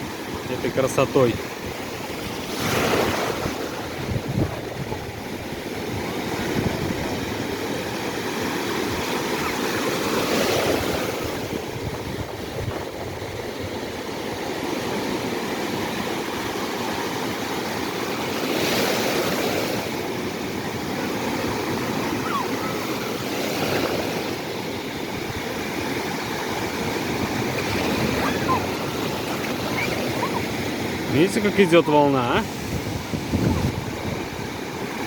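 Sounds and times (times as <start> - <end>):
waves breaking on shore: 0.0 - 35.0.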